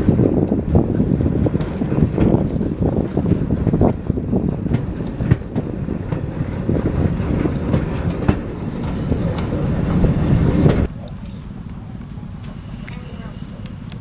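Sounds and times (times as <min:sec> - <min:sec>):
train rumbling: 0:00.0 - 0:14.0
wheels clicking on track: 0:00.0 - 0:14.0.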